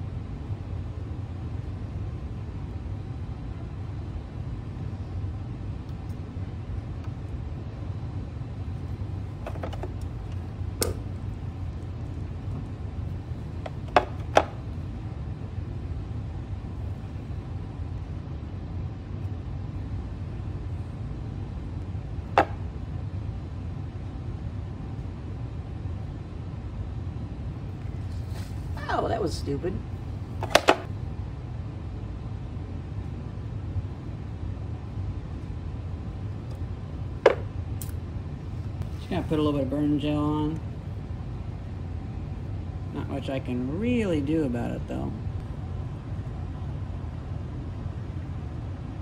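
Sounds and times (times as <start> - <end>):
low background hum: 0.0 - 49.0.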